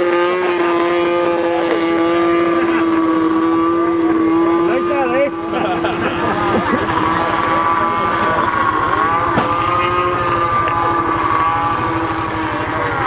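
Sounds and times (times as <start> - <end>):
snowmobile engine whining: 0.0 - 13.0.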